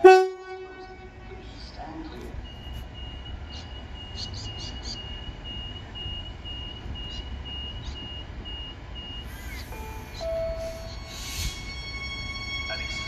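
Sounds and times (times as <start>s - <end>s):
birds chirping: 0.0s - 13.0s
low hum of train: 0.0s - 13.0s
train door warning beeps: 0.0s - 13.0s.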